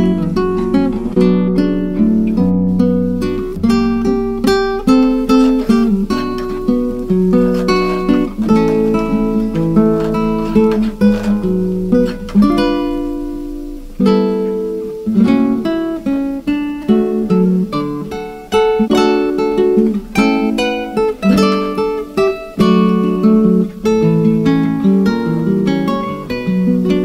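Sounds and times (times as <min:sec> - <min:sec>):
instrumental guitar music: 0:00.0 - 0:27.0.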